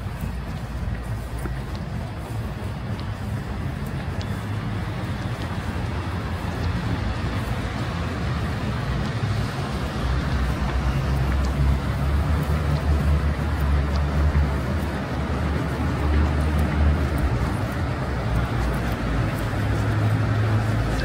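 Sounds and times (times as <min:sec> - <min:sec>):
low engine rumble: 0:00.0 - 0:21.0
passing cars: 0:00.0 - 0:21.0.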